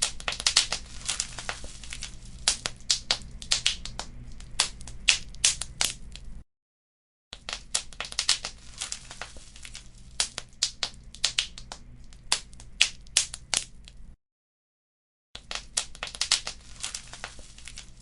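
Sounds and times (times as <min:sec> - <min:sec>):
sharp pops and snaps: 0:00.0 - 0:06.4, 0:07.4 - 0:14.1, 0:15.4 - 0:18.0
wood fire crackling: 0:00.0 - 0:06.4, 0:07.4 - 0:14.2, 0:15.5 - 0:18.0.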